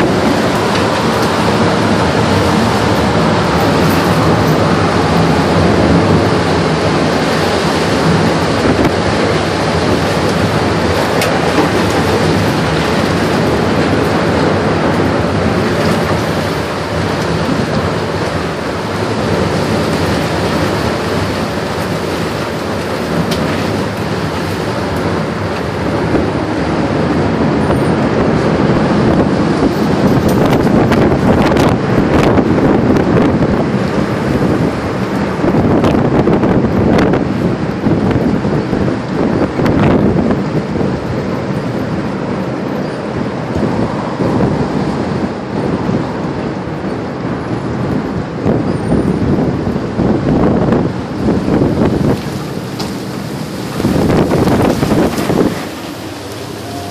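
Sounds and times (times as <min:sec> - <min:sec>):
rush of wind and rain: 0:00.0 - 0:56.9.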